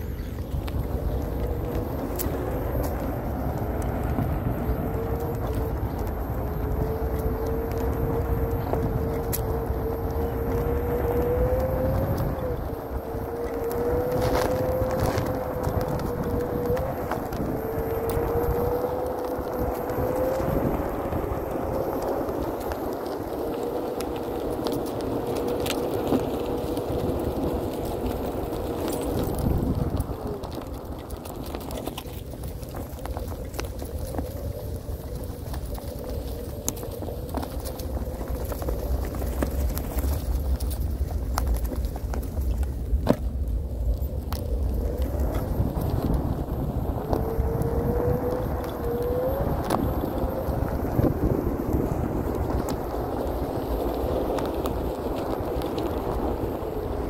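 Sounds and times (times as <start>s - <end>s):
electric motor whine: 0.0s - 57.0s
grit clicks under tyre: 0.0s - 57.0s
tyre rumble on asphalt: 0.0s - 57.0s.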